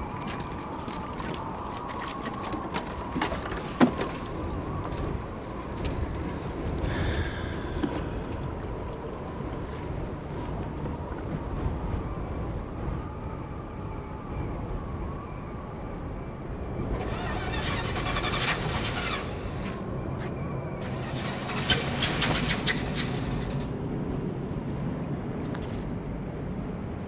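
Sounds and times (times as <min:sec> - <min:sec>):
low vehicle rumble: 0:00.0 - 0:27.0.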